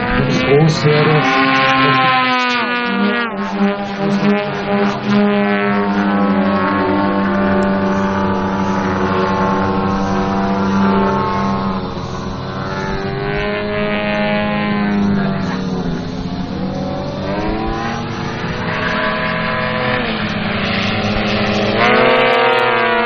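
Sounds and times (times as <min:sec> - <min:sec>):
model planes droning: 0:00.0 - 0:23.0.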